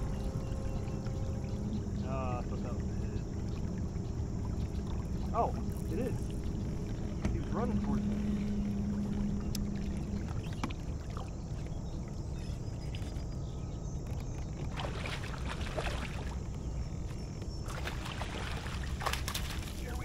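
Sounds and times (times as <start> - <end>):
low hum: 0.0 - 20.0
river water rumbling: 0.0 - 20.0.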